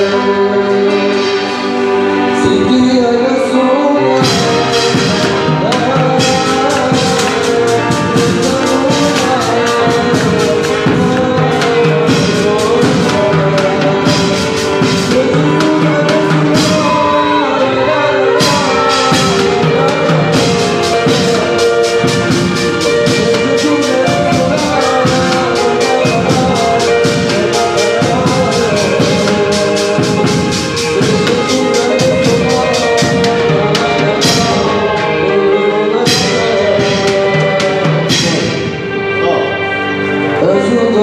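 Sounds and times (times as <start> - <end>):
man singing into a microphone: 0.0 - 39.7, 40.3 - 41.0
drum kit beat: 4.0 - 39.4.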